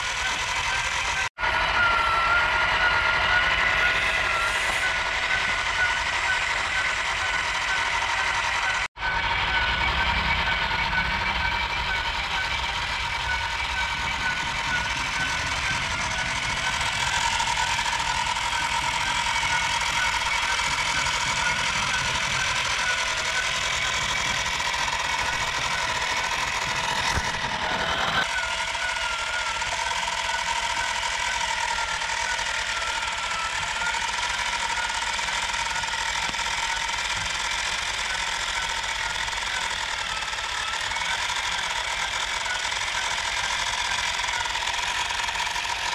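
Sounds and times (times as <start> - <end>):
gears and belt drive: 0.0 - 45.9
toy motor whirring: 0.0 - 45.9.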